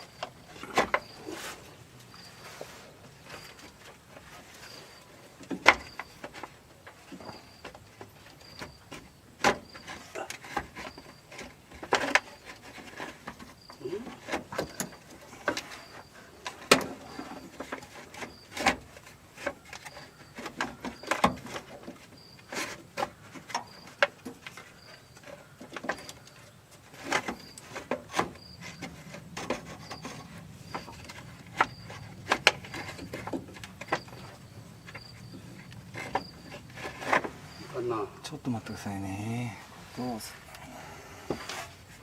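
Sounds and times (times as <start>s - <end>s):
insect chirping: 0.0s - 42.0s.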